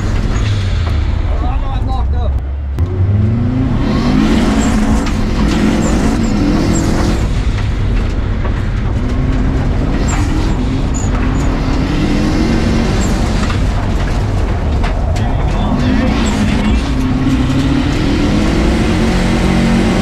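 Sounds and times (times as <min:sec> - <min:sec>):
rally car engine revving: 0:00.0 - 0:20.0
tyres on loose dirt: 0:03.9 - 0:20.0.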